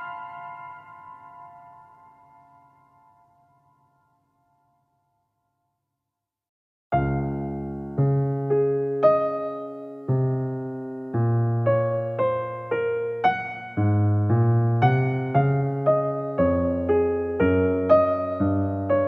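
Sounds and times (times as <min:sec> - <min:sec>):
slow piano music: 0:00.0 - 0:05.1, 0:06.9 - 0:19.0.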